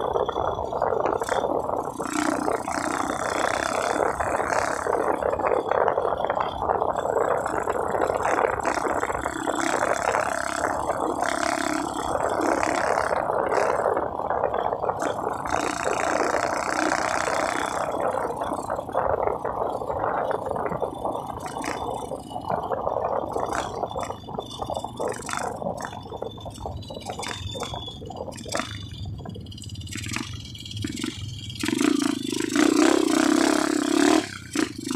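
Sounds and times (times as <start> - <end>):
wind buffeting microphone: 0.0 - 30.3
bike rattle: 0.0 - 34.9
motorcycle riding: 0.0 - 34.9.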